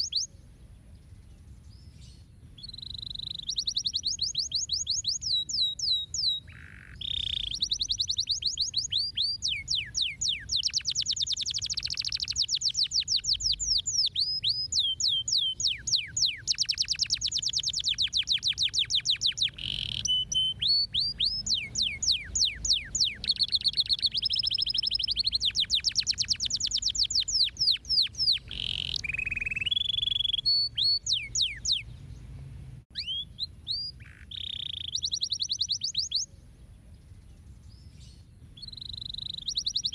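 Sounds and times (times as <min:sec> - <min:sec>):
faint low hum: 0:00.0 - 0:34.1
canary singing fast trills: 0:00.0 - 0:39.9.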